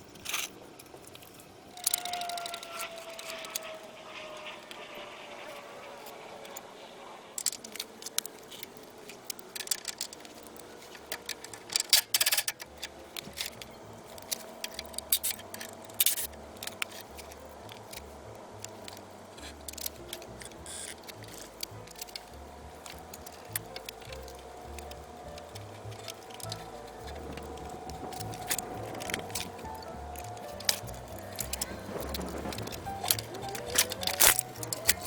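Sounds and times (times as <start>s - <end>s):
metal tools clinking and tapping: 0.1s - 3.8s, 7.4s - 35.0s.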